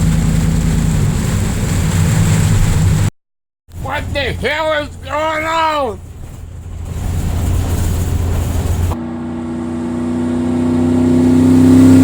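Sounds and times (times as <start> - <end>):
steady engine drone: 0.0 - 3.1, 3.7 - 12.0
vehicle engine running: 0.0 - 3.1, 3.7 - 12.0.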